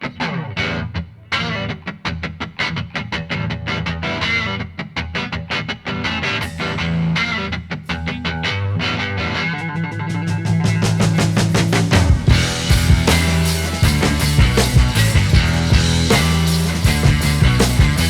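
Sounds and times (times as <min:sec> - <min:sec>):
rock music with guitar: 0:00.0 - 0:18.0.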